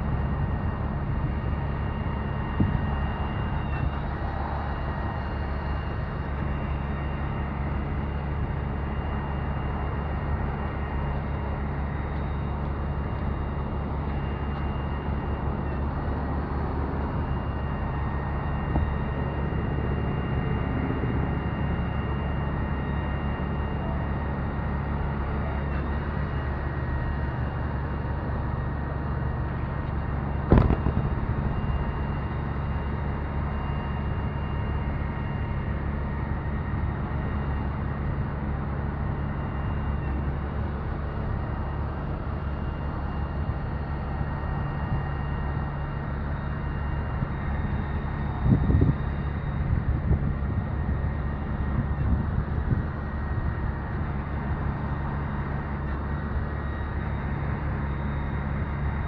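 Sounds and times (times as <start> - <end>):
diesel truck engine running: 0.0 - 59.0
faint steady whine: 0.0 - 59.0.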